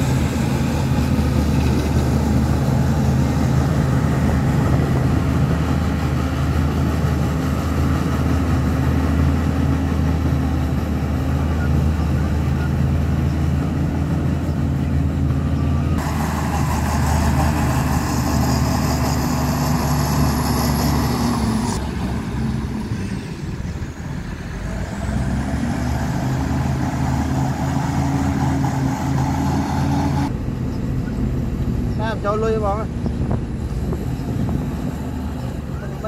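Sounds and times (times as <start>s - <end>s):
heavy diesel engines running: 0.0s - 36.0s.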